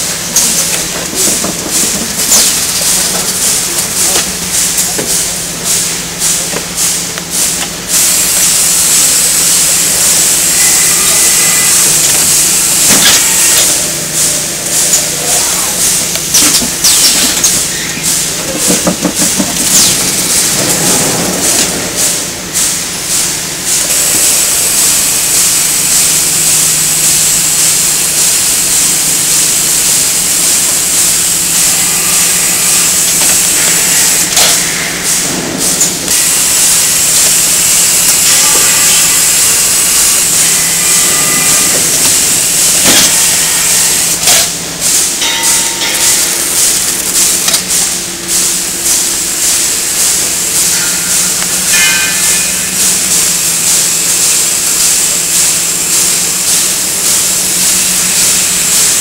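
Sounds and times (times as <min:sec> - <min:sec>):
machinery hiss: 0:00.0 - 0:59.0.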